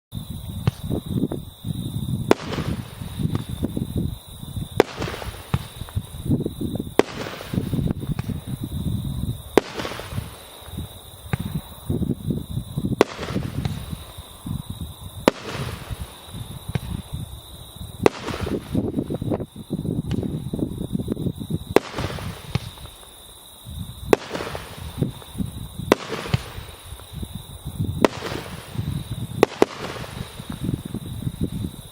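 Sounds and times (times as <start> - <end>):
fireworks rumbling: 0.2 - 31.9
fireworks bangs: 0.4 - 31.9.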